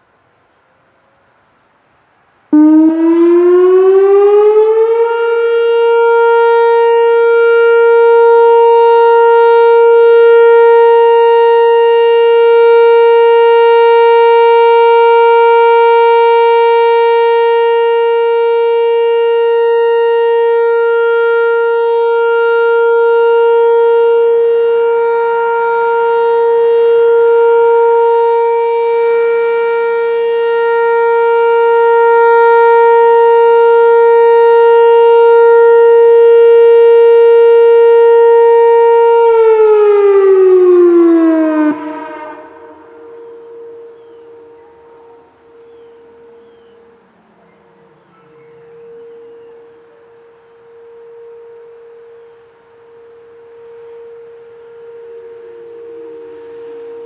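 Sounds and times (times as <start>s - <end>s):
electronic warning siren: 2.5s - 57.0s.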